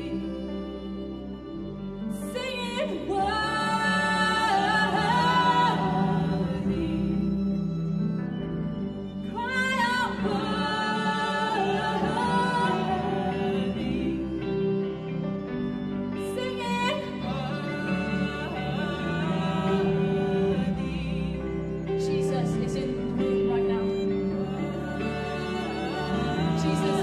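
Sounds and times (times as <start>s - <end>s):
women singing: 0.0s - 27.0s.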